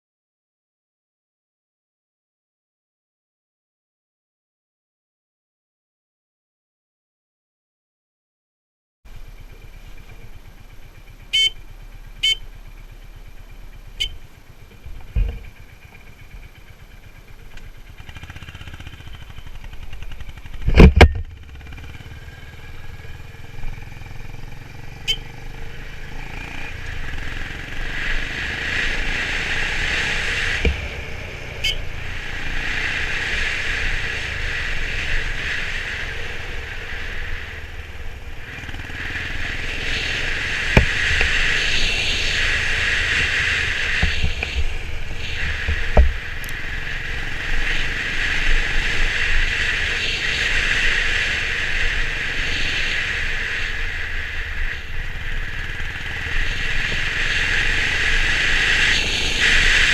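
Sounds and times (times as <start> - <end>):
motorcycle engine running: 9.1 - 59.9
wind and road noise: 9.1 - 59.9.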